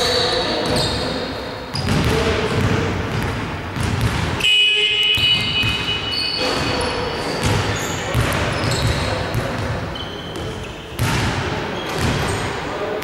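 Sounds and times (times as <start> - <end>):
sneakers squeaking: 0.0 - 13.0
basketball bouncing: 1.7 - 12.5.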